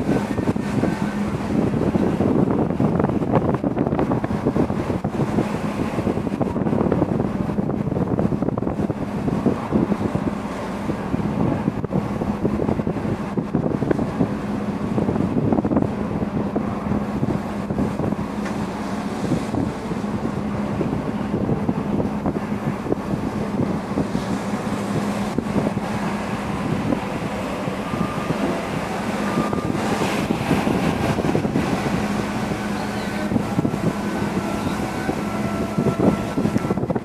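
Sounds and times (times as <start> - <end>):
low engine hum: 0.0 - 37.0
sea water churning along a hull: 0.0 - 37.0
wind buffeting the microphone: 0.0 - 37.0.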